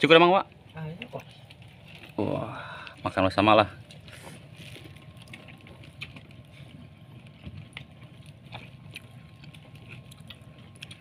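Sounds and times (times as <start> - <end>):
low steady rumble: 0.0 - 11.0
people eating with hands: 0.0 - 11.0.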